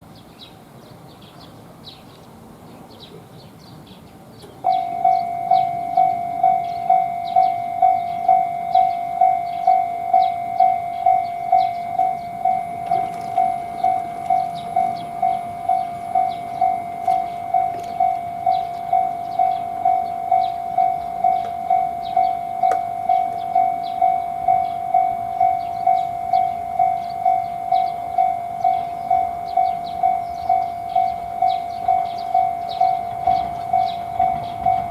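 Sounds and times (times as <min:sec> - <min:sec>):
level crossing warning bell: 0:04.5 - 0:34.9.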